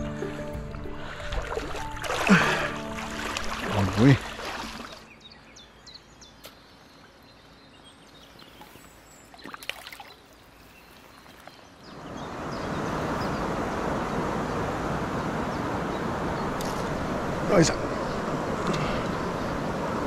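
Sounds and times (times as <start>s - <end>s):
rushing river water: 0.0s - 5.2s, 8.5s - 20.0s.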